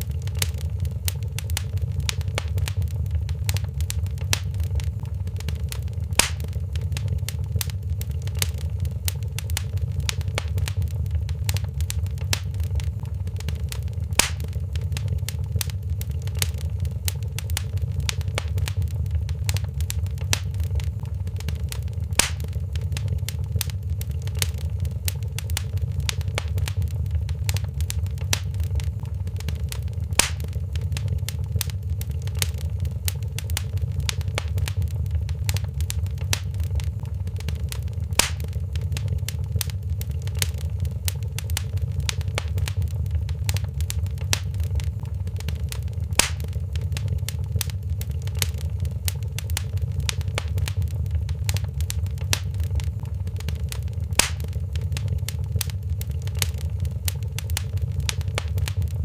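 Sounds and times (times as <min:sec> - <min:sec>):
loud fire pops: 0:00.0 - 0:59.0
low rumble: 0:00.0 - 0:59.0
wood fire crackling: 0:00.0 - 0:59.0.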